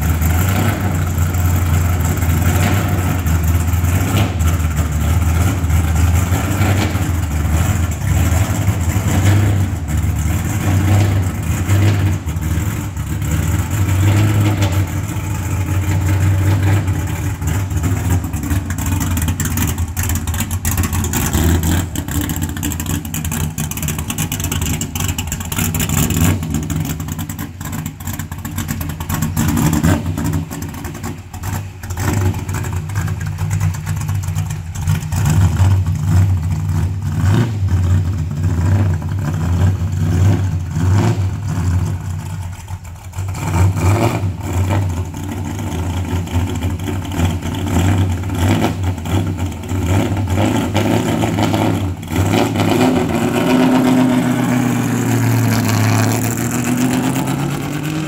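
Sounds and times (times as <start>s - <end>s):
race car engine idling with throttle blips: 0.0s - 58.0s.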